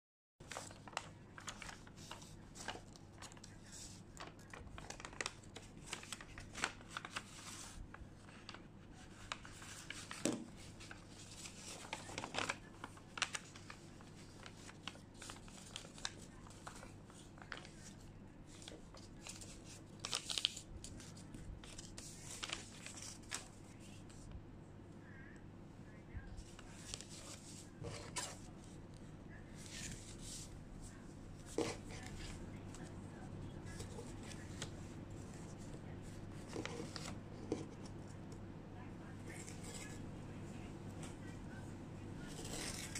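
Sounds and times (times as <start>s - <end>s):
paper crinkling and rustling: 0.4s - 24.3s, 26.3s - 38.4s, 39.1s - 42.9s.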